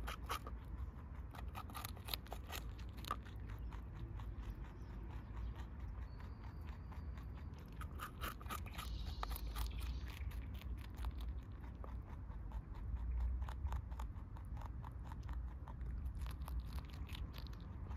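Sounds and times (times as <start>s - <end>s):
rabbit munching vegetables: 0.0s - 17.9s.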